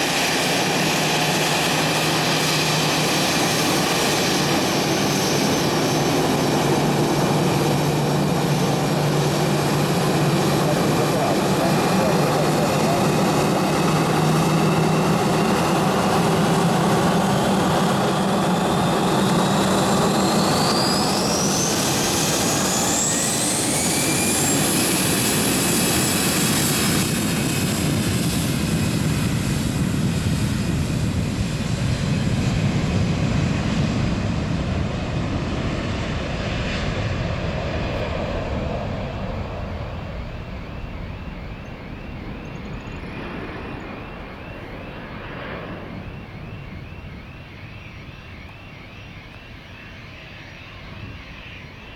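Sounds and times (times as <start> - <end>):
jet engine roar: 0.0 - 51.9
jet engine whine: 0.0 - 51.9.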